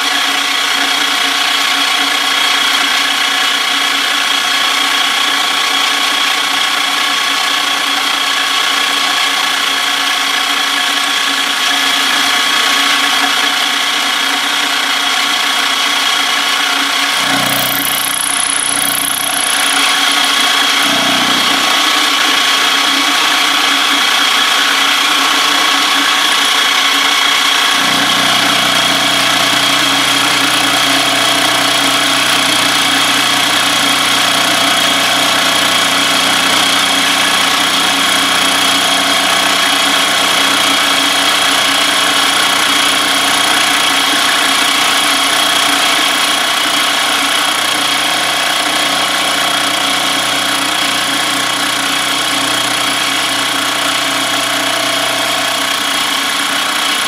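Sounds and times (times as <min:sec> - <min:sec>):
milling machine running: 0:00.0 - 0:57.0.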